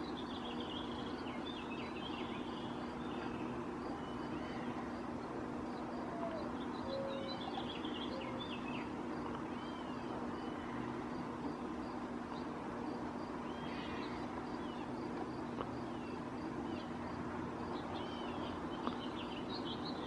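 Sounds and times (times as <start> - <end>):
songbirds twittering: 0.0 - 20.0
steady low hum: 0.0 - 20.0.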